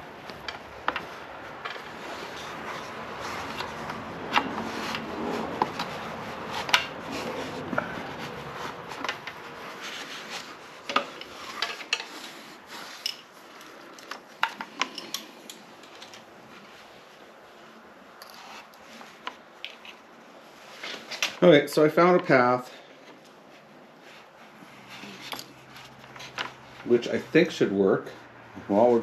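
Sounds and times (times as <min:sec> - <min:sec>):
hands rustling and rubbing wires: 0:00.0 - 0:27.6.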